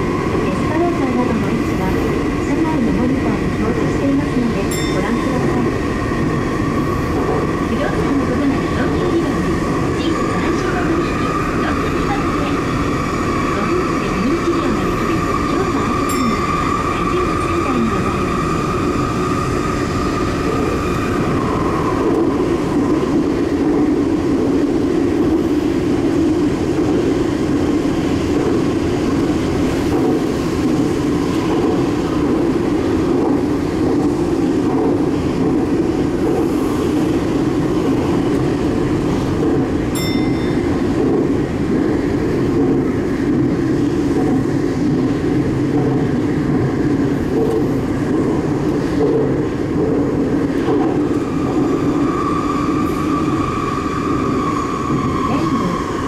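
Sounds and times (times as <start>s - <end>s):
train rumbling through tunnel: 0.0s - 56.0s.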